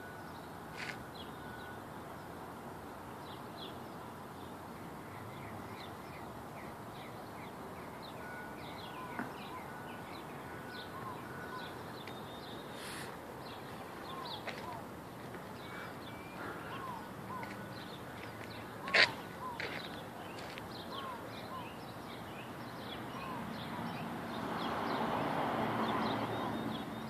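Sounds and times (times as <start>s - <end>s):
small birds chirping: 3.2s - 27.0s.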